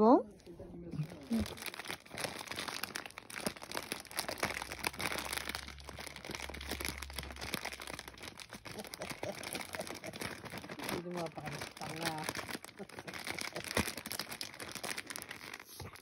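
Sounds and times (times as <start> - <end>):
plastic snack bag crinkling: 0.4 - 16.0.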